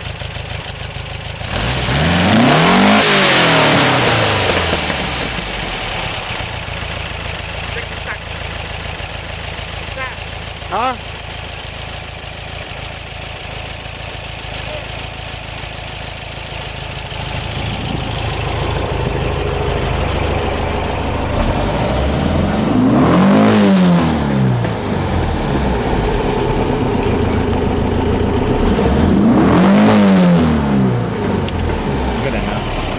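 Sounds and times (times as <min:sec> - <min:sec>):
van engine idling and revving: 0:00.0 - 0:32.9.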